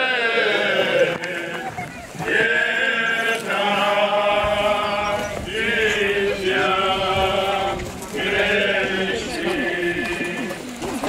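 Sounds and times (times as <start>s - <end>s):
voices chanting long notes: 0.0s - 10.8s.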